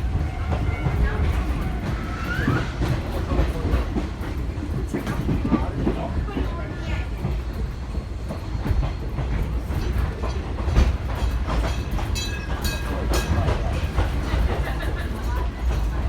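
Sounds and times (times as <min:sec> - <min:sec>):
train carriage rumble and clickety-clack: 0:00.0 - 0:16.0.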